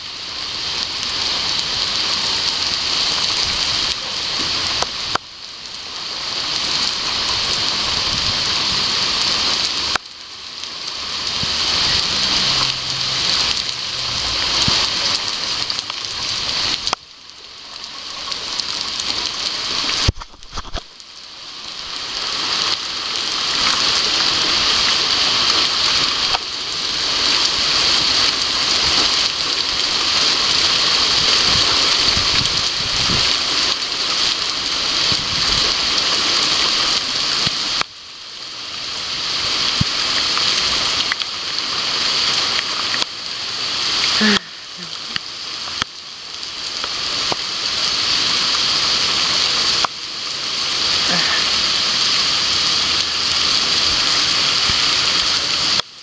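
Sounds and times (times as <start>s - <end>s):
heavy rain on paving and roof: 0.0s - 56.0s.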